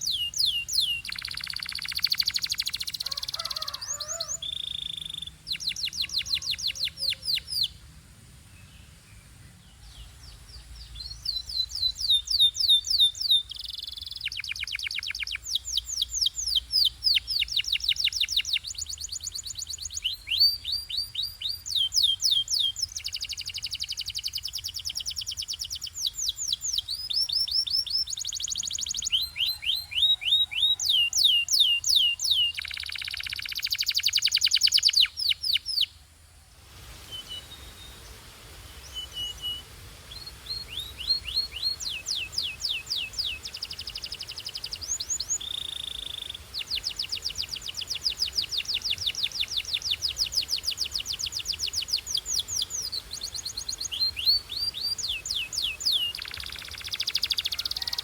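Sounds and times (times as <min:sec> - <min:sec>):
canary singing trills: 0:00.0 - 0:07.8, 0:10.3 - 0:36.0, 0:37.1 - 0:58.0.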